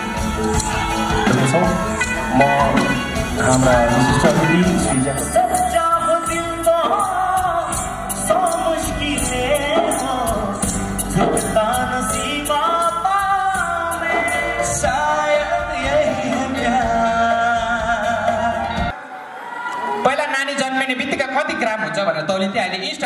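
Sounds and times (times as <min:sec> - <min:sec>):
drums: 0:00.0 - 0:19.0
guitar: 0:00.0 - 0:19.0
person singing: 0:00.0 - 0:19.4.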